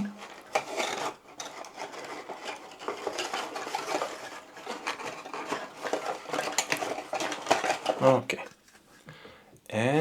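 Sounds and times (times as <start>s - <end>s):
packaging rustling: 0.1s - 9.0s.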